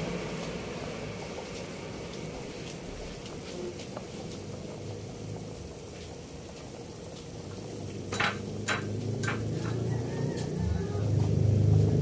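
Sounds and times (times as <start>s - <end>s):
pot boiling and bubbling: 0.0s - 12.0s.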